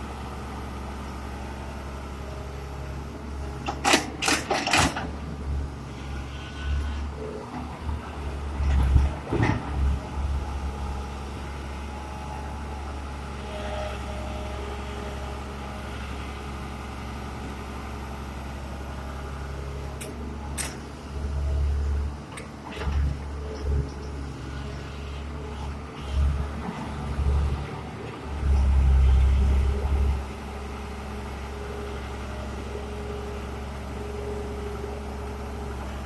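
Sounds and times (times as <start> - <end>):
diesel machinery rumbling: 0.0 - 36.0.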